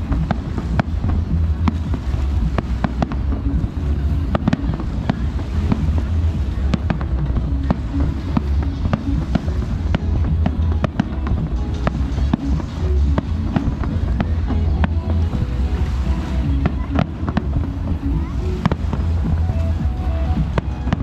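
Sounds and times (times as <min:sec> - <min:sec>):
deep rumble: 0:00.0 - 0:21.0.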